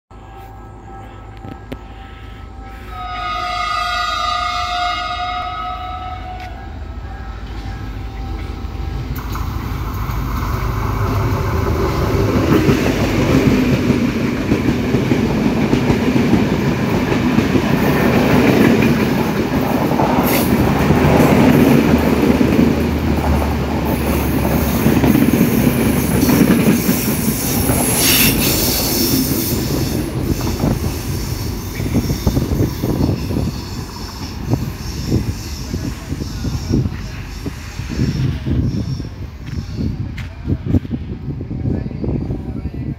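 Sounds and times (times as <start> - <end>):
train wheels rumbling on rail: 0.3 - 42.9.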